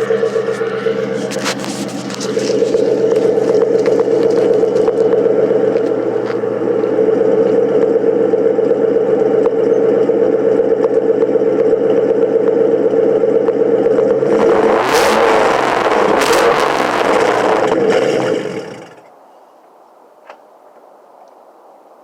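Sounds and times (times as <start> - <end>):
car engine idling: 0.0 - 19.1.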